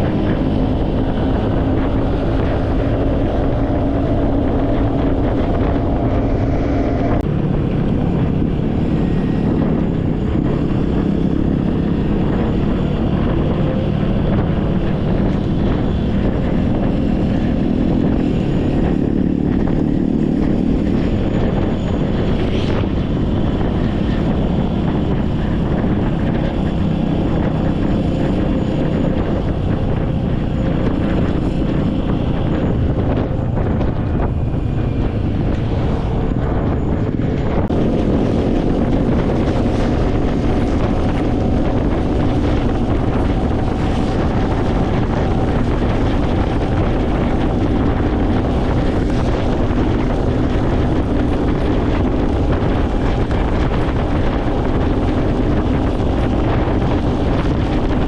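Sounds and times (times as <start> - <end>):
engine running steadily: 0.0 - 58.0
wind buffeting microphone: 0.0 - 58.0.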